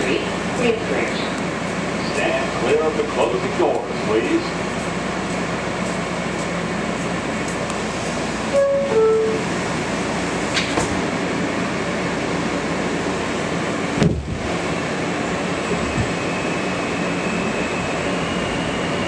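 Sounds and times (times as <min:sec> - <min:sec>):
subway car running noise: 0:00.0 - 0:19.0
train pulling out: 0:00.0 - 0:19.0.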